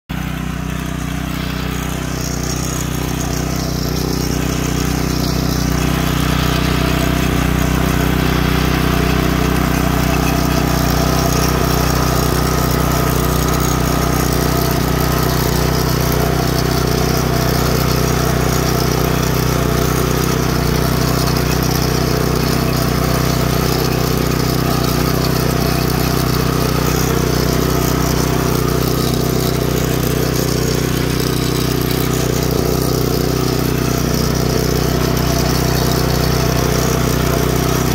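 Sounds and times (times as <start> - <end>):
tiller engine running: 0.1 - 37.9
tines churning soil: 0.1 - 37.9.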